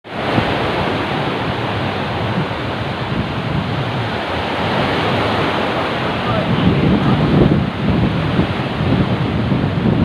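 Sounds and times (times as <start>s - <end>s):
sea waves and surf: 0.0s - 10.0s
wind buffeting microphone: 0.1s - 10.0s.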